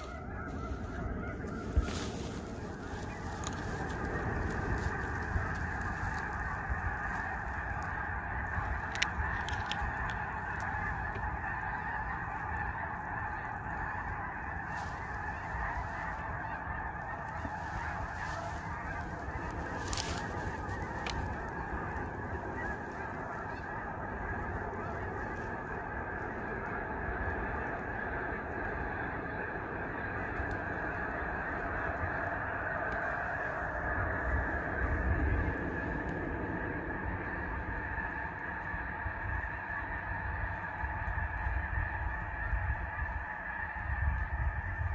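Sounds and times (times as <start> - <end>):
geese honking: 0.0 - 44.9.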